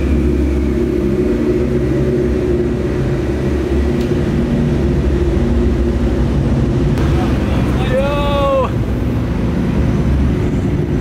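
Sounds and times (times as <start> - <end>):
car engines running at low revs: 0.0 - 11.0.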